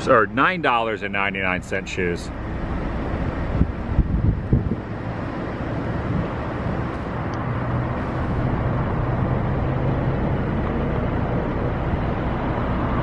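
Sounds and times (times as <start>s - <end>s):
car engine humming: 0.0s - 13.0s
road and traffic noise: 0.0s - 13.0s.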